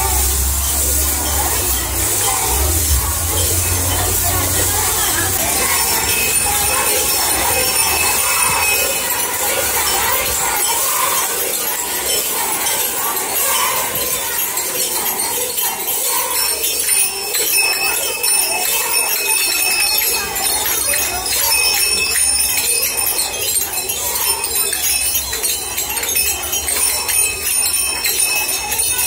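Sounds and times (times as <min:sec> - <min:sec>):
jingling dance sticks clashing: 0:00.0 - 0:29.0.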